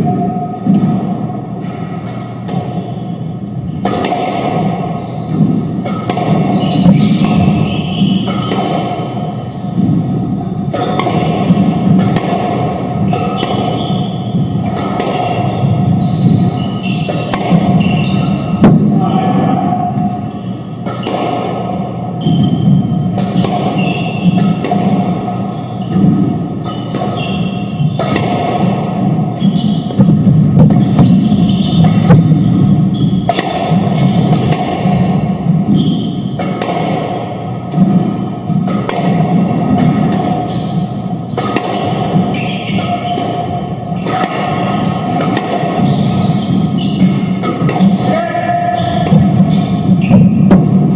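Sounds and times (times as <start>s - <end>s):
squash ball strikes echoing: 0.0s - 50.9s.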